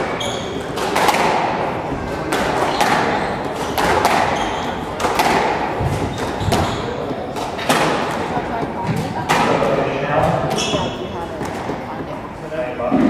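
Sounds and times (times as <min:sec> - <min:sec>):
squash ball smacking: 0:00.6 - 0:11.8.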